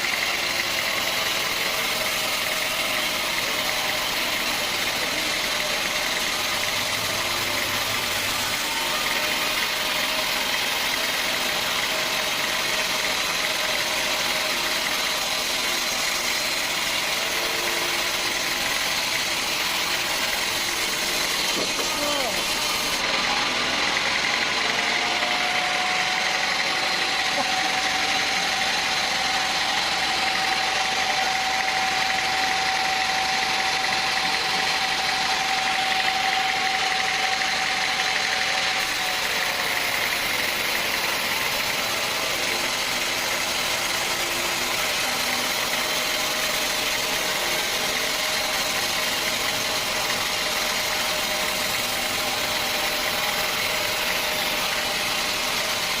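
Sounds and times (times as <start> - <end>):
high machine whine: 0.0 - 56.0
sawmill machinery running: 0.0 - 56.0.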